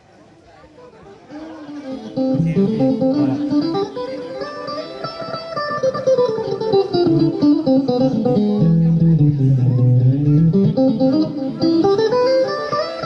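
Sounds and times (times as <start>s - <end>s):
amplified plucked guitar melody: 1.3s - 13.0s.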